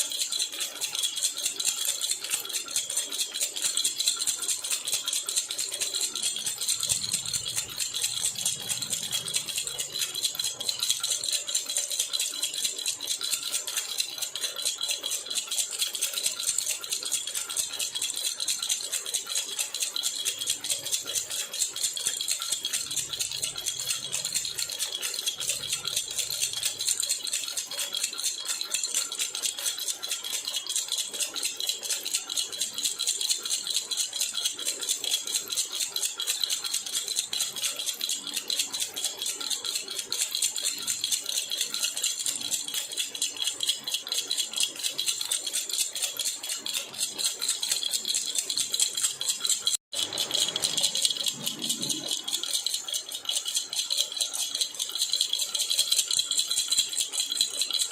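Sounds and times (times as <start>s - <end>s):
metal baby rattle jingling: 0.0s - 57.9s.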